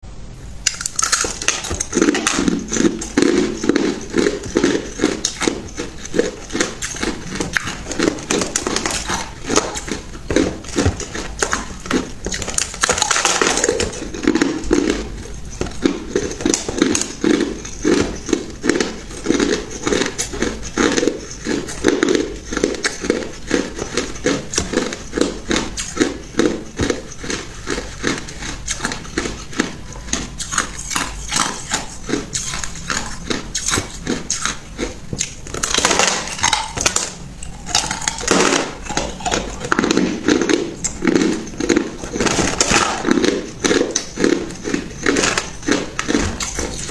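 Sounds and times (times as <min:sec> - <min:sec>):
ice being chewed: 0:00.6 - 0:46.9.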